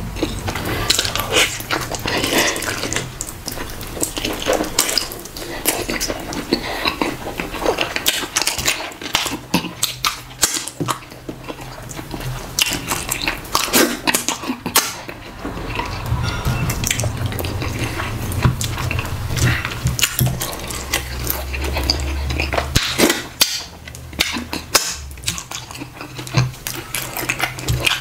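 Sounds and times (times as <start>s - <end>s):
sticky squelches of food: 0.0s - 28.0s
wet chewing and lip smacks: 0.1s - 28.0s.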